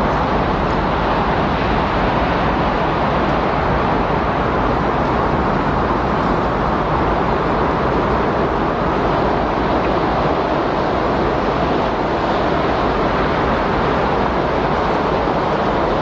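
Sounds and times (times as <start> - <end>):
strong wind rushing: 0.0 - 16.0.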